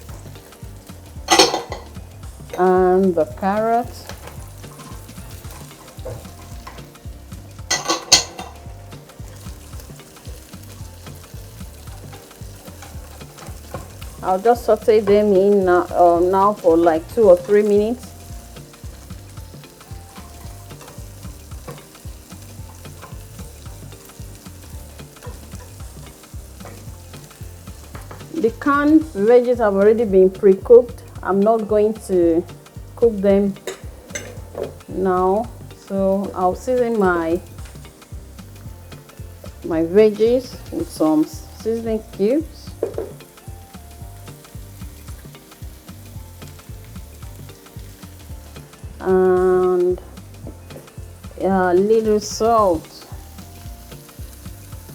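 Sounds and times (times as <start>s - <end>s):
utensil clicking against pan: 0.0s - 54.9s
vegetables sizzling in a pan: 0.0s - 54.9s.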